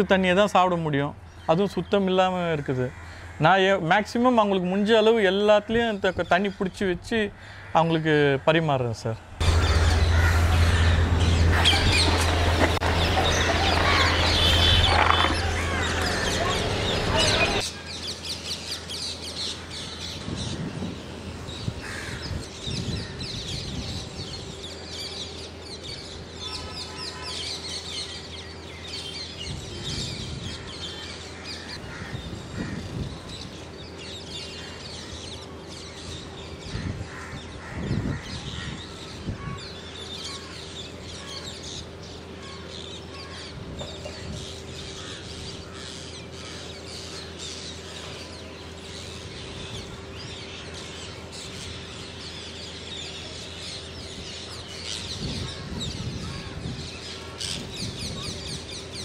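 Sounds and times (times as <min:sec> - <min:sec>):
parakeets screeching: 0:09.4 - 0:59.0.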